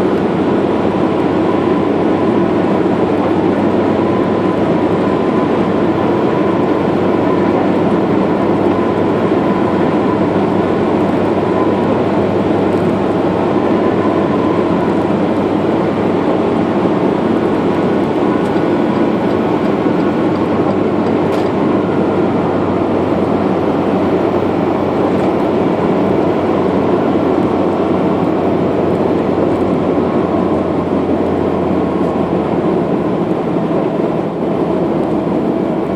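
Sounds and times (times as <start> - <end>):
vehicle road and engine drone: 0.0 - 35.9.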